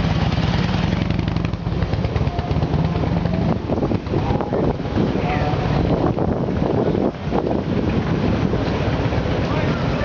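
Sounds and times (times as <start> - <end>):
motorcycle engines rumbling: 0.0 - 10.0.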